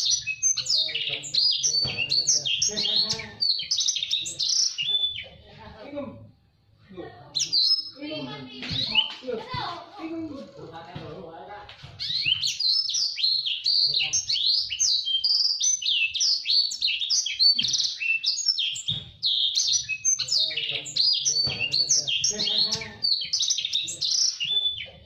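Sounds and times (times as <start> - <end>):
finch singing: 0.0 - 5.5, 7.3 - 9.2, 12.0 - 25.0.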